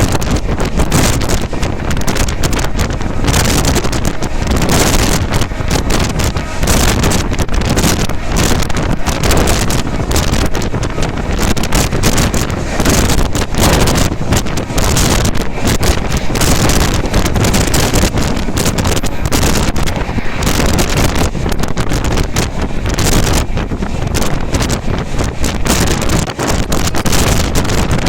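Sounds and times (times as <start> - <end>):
train wheels rumbling on rails: 0.0 - 28.0
wind rushing over microphone: 0.0 - 28.0.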